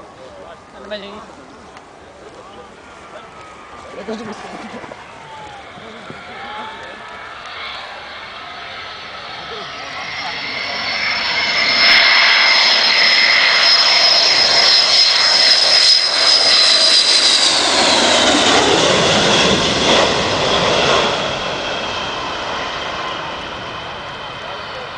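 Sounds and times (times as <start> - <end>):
jet engines passing: 0.0 - 24.9.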